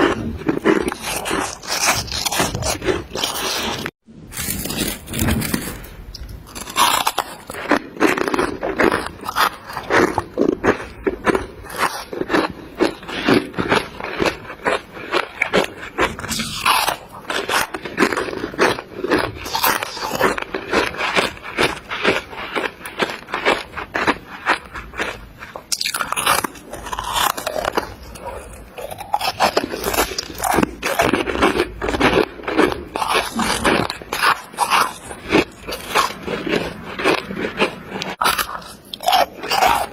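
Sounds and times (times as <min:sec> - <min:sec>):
chewing crunchy frost: 0:00.0 - 0:39.9.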